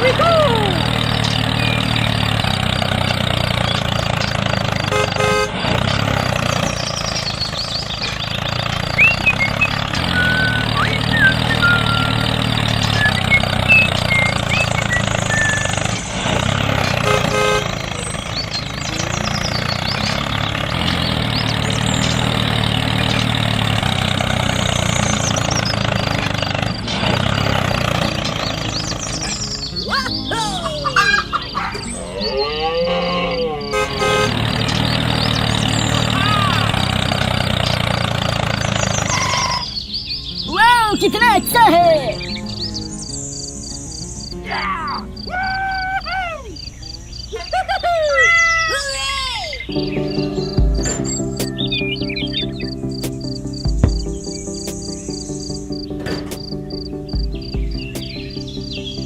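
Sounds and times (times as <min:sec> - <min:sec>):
vehicle engine running: 0:00.0 - 0:48.7, 0:49.5 - 0:59.0.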